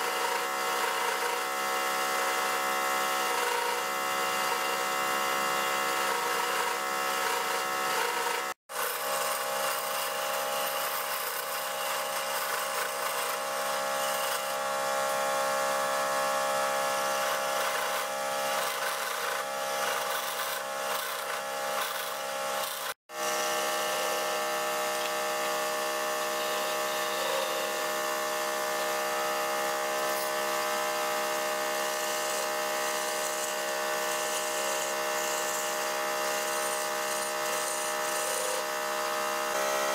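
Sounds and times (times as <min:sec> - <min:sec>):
wood lathe motor hum: 0:00.0 - 0:39.9
chisel scraping spinning wood: 0:05.4 - 0:16.0, 0:16.8 - 0:23.0, 0:23.9 - 0:39.3.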